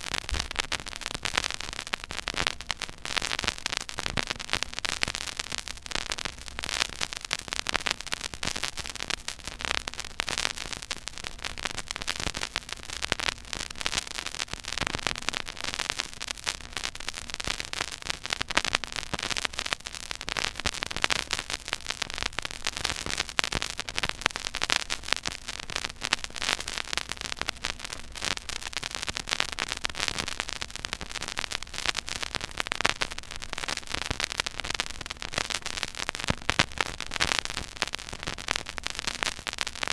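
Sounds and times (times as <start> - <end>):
vinyl record crackle and pops: 0.0 - 39.9.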